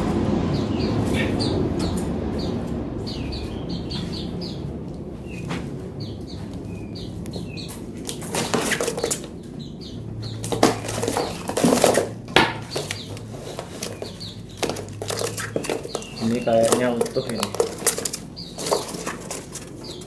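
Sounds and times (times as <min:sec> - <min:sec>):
birds flapping wings: 0:00.0 - 0:20.0.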